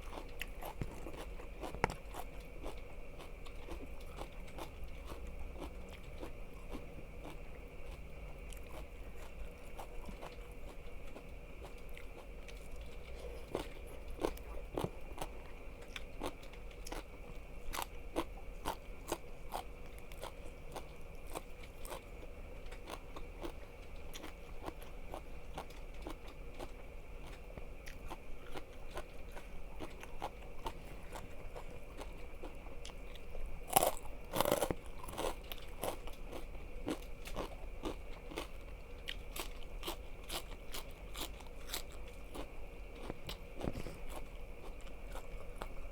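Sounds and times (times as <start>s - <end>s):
faint steady hum: 0.0s - 45.9s
person chewing crunchy food: 0.0s - 45.9s.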